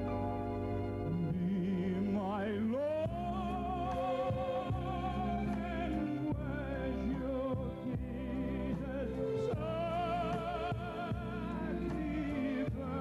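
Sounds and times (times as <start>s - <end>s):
instrumental accompaniment: 0.0s - 13.0s
operatic tenor singing: 1.0s - 13.0s.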